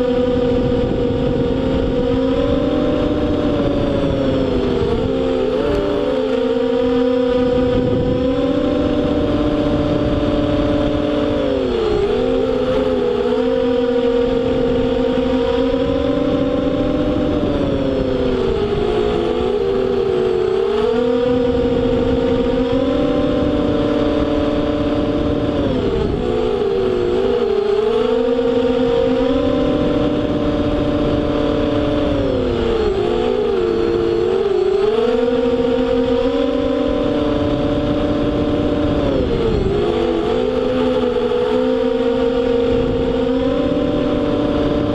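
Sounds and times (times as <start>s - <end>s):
quadcopter motors whining: 0.0s - 44.9s.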